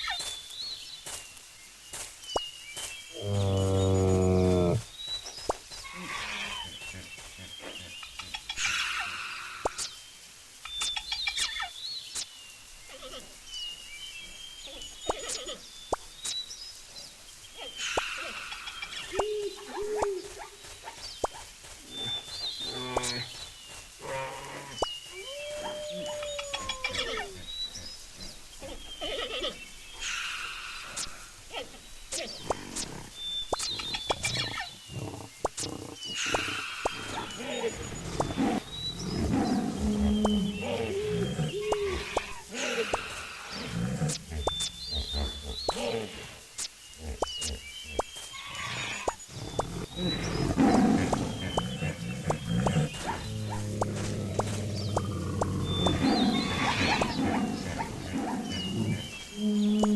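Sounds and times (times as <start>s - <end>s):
birds chirping: 0.0s - 59.9s
lower arching bird calls: 3.1s - 10.0s, 17.6s - 59.9s.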